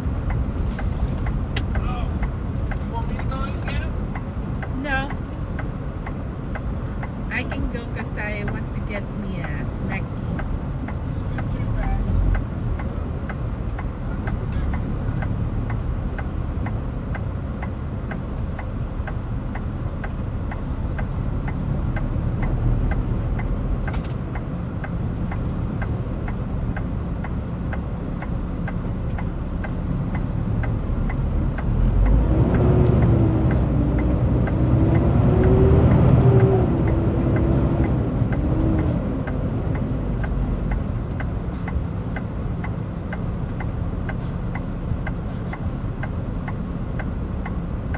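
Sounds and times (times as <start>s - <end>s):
vehicle engine rumbling: 0.0s - 47.9s
faint regular ticking: 1.2s - 47.9s.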